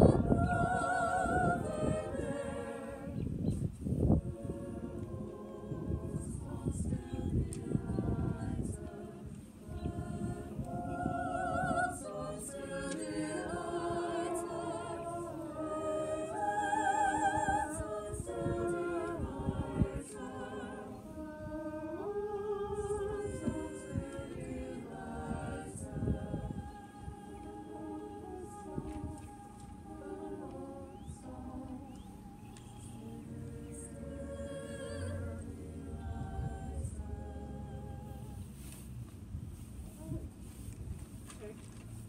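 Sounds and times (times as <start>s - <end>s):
choir singing: 0.0s - 38.6s.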